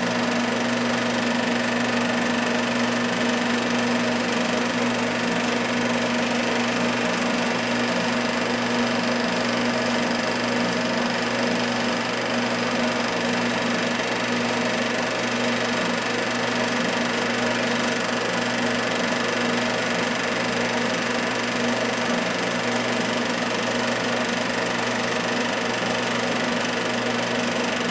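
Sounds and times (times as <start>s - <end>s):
film projector whirring: 0.0s - 27.9s.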